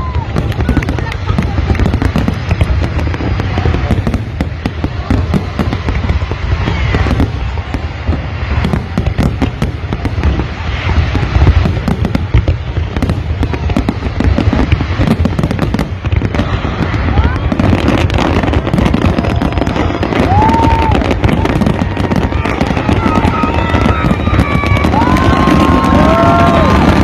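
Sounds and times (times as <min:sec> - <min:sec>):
fireworks cracks and pops: 0:00.0 - 0:27.0.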